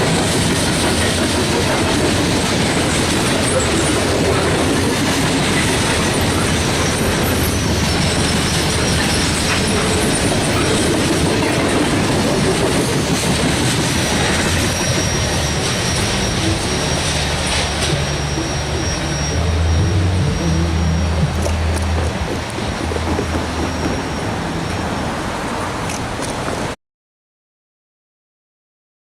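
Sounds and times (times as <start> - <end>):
high wheel squeal: 0.0 - 26.7
train wheels rumbling on rails: 0.0 - 26.8.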